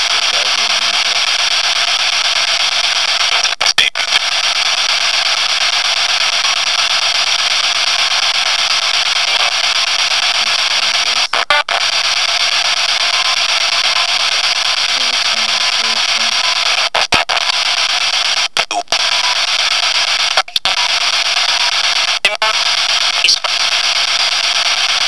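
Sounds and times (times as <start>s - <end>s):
static hiss: 0.0s - 25.0s.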